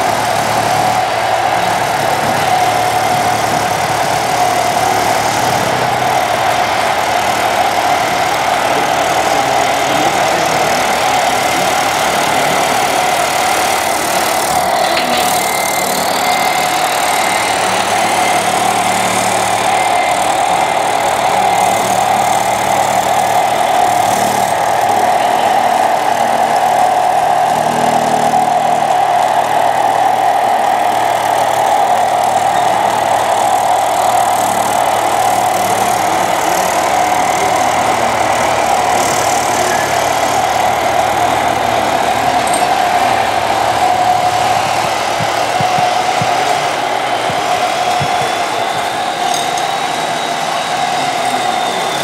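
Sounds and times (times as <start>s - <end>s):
model road roller engine idling: 0.0s - 52.0s.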